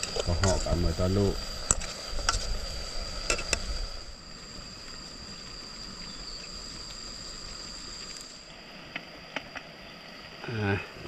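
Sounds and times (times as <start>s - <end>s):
forest insects droning: 0.0s - 11.0s.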